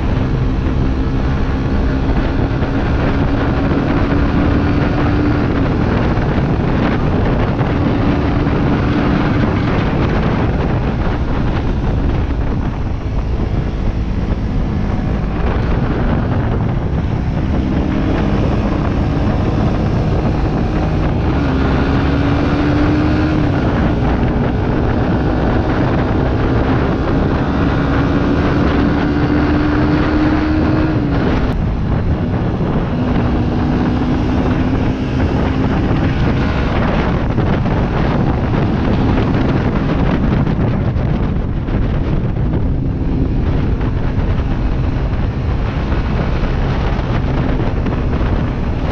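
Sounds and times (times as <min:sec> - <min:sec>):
motorcycle engine cruising: 0:00.0 - 0:48.9
wind rumble on microphone: 0:00.0 - 0:48.9.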